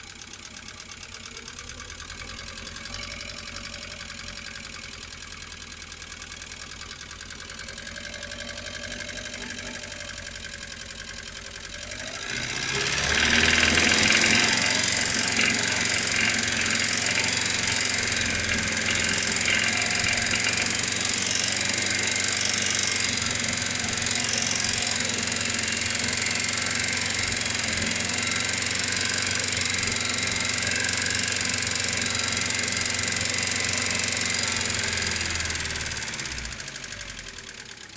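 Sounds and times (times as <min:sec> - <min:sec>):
car engine running with knock: 0:00.0 - 0:37.9.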